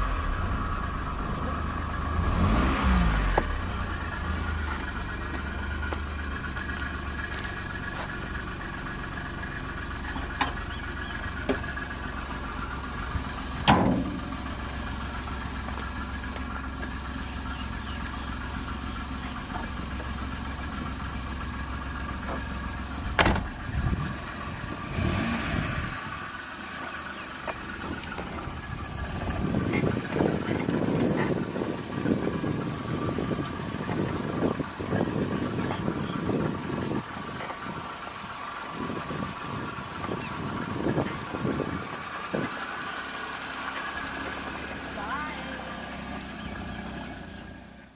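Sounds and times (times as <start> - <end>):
small car engine idling: 0.0 - 47.9.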